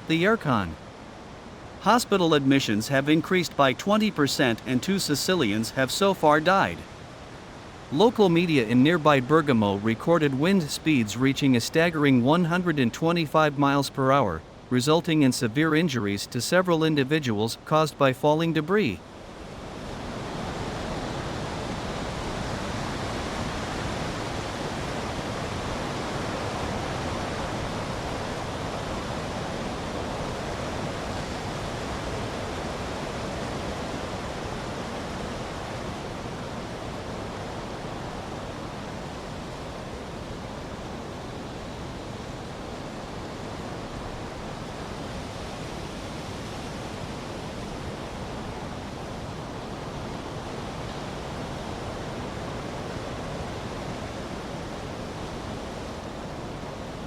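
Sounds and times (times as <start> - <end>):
wind: 0.0 - 57.0.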